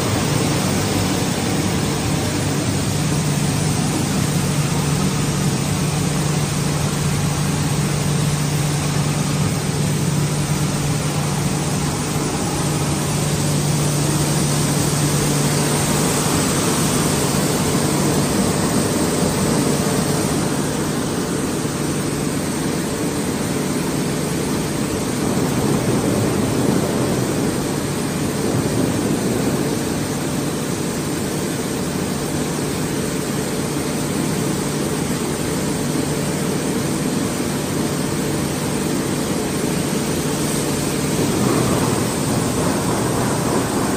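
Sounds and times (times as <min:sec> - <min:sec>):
production line machinery running: 0:00.0 - 0:43.9.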